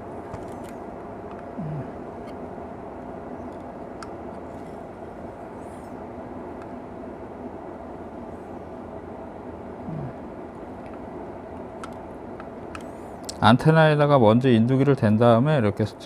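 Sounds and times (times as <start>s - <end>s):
fan machine whirring: 0.0s - 16.0s.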